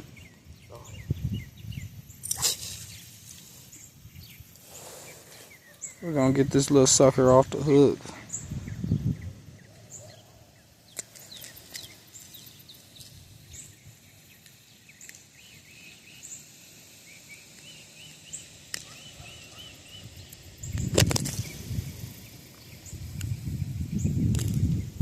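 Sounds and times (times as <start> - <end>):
faint outdoor background noise: 0.0 - 25.0
small birds chirping: 0.0 - 25.0.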